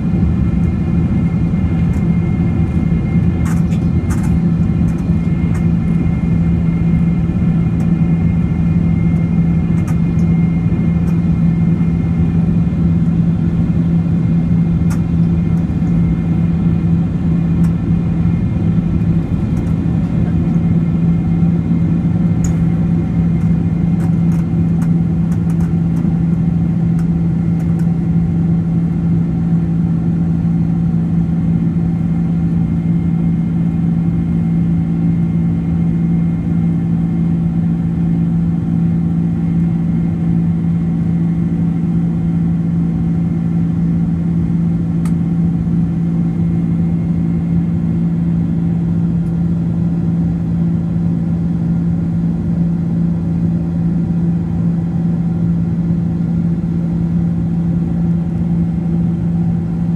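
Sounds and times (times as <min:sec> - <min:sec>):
airliner engines droning: 0:00.0 - 0:59.9.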